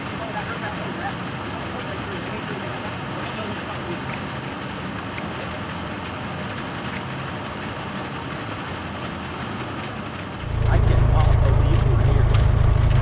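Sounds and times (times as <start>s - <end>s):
rail car engine running: 0.0s - 13.0s
wheels on rails: 0.0s - 13.0s.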